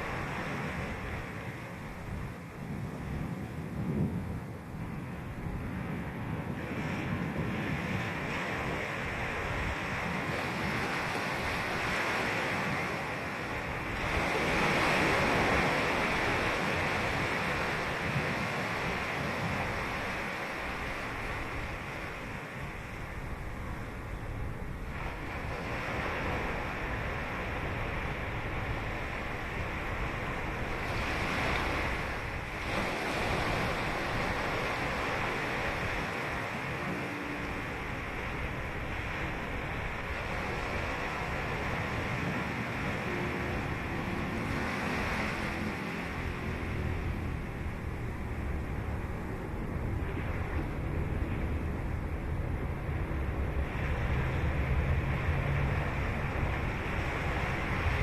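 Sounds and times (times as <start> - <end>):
ocean waves washing in: 0.0 - 58.0
wave breaking: 8.2 - 58.0.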